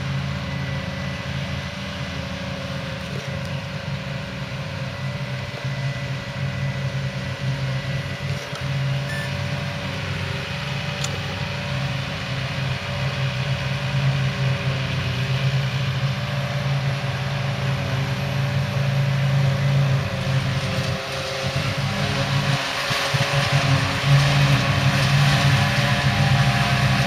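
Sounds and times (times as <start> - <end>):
diesel engine humming: 0.0 - 27.0.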